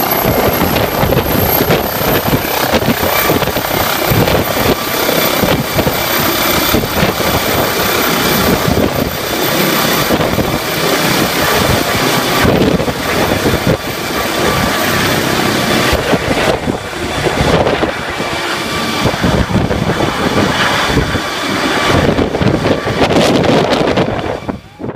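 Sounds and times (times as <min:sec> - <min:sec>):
helicopter rotor noise: 0:00.0 - 0:24.9
turbine whine: 0:00.0 - 0:24.9
wind buffeting microphone: 0:00.0 - 0:24.9.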